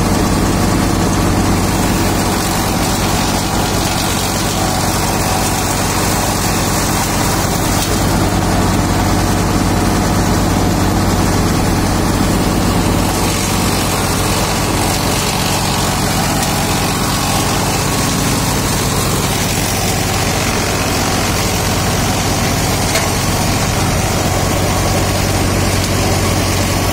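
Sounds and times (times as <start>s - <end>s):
wood chipper engine drone: 0.0s - 26.9s.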